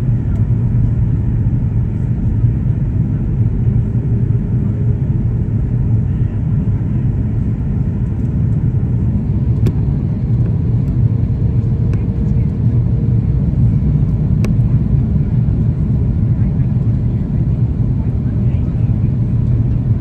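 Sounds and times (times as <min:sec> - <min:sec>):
jet engine and airflow rumble: 0:00.0 - 0:20.0.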